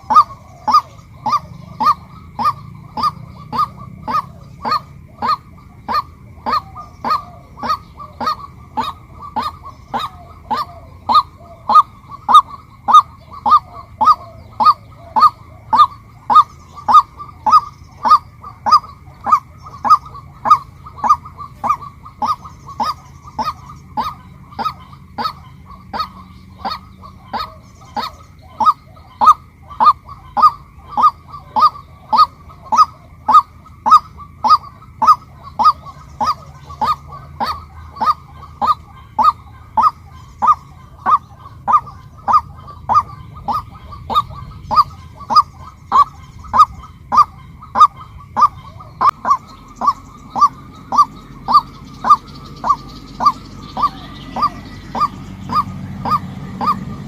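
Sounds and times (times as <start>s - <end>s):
bird calling harsh notes: 0.0s - 57.0s.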